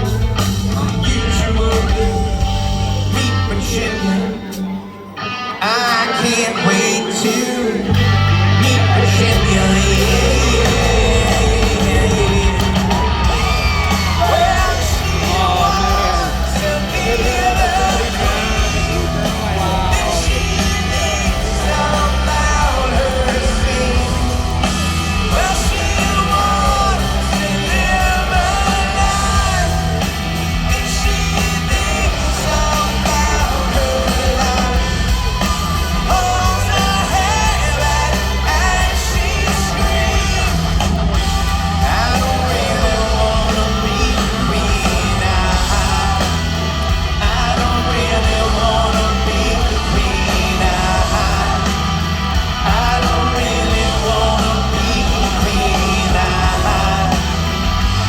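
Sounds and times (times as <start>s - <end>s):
steady bass line: 0.0s - 4.8s, 7.8s - 58.0s
crowd yelling: 0.0s - 58.0s
person singing: 0.0s - 58.0s
rock band playing: 0.0s - 58.0s.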